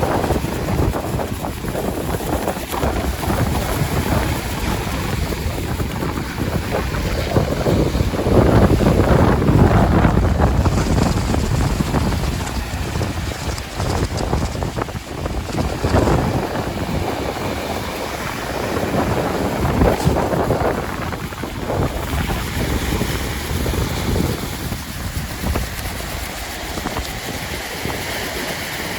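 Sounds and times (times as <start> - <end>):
surf breaking on shore: 0.0 - 28.9
wind buffeting microphone: 0.0 - 28.9.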